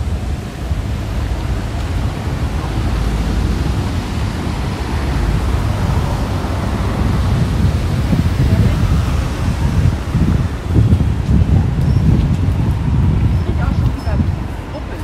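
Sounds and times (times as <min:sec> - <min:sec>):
traffic hiss: 0:00.0 - 0:15.0
wind rumbling on microphone: 0:00.0 - 0:15.0.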